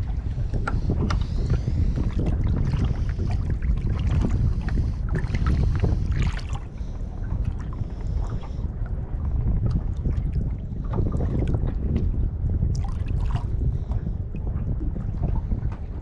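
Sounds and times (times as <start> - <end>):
water sounds: 0.0 - 16.0
wind buffeting microphone: 0.0 - 16.0.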